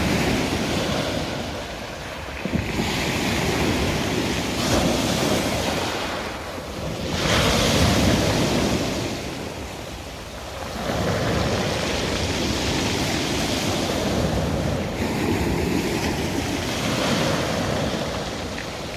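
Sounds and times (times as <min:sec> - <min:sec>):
sea waves washing onto shore: 0:00.0 - 0:18.9.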